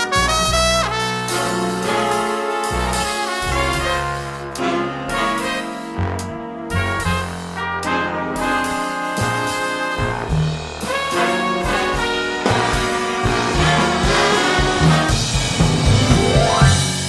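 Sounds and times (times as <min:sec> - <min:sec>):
big band jazz: 0:00.0 - 0:17.0.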